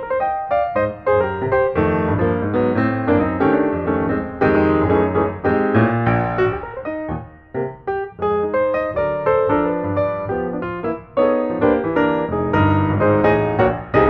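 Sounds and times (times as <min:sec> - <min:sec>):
piano music with bass line: 0:00.0 - 0:14.0.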